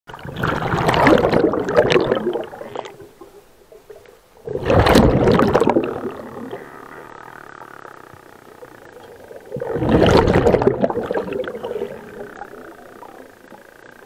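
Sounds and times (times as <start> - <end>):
underwater bubbles gurgling: 0.1 - 14.0.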